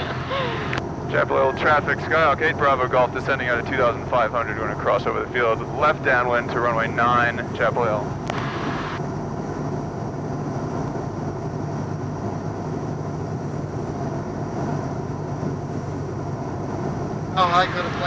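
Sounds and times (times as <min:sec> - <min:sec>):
light aircraft engine and propeller drone: 0:00.0 - 0:18.0.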